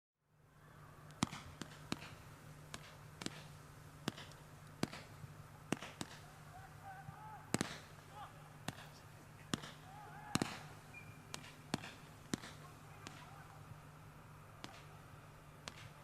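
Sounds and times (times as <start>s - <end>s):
faint low hum: 0.2s - 16.0s
firework bangs: 1.1s - 13.8s, 14.6s - 16.0s.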